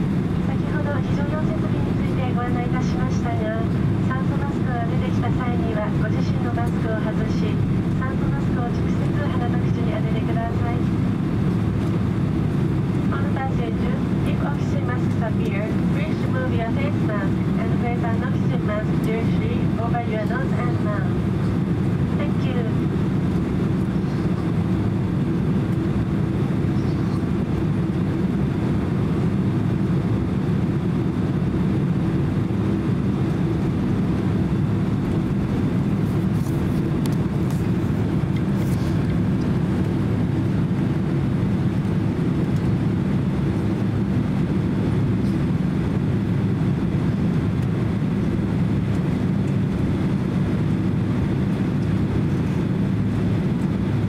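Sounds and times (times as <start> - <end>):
airliner engines rumbling: 0.0 - 54.0.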